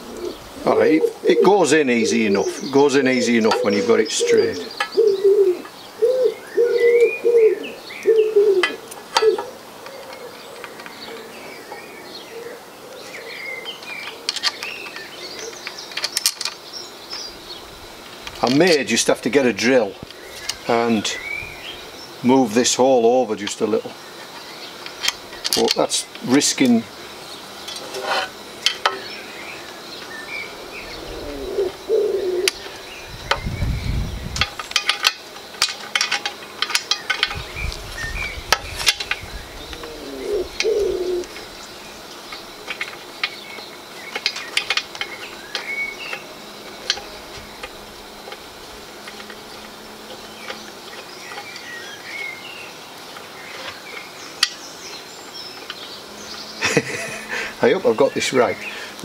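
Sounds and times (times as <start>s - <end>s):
birds calling: 0.0s - 59.0s.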